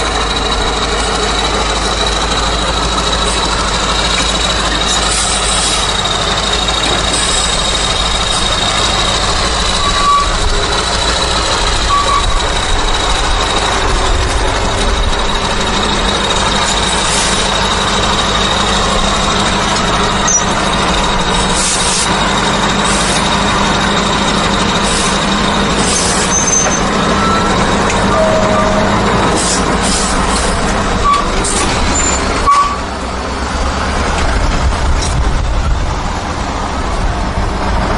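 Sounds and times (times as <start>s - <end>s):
truck engine and road noise: 0.0s - 37.9s.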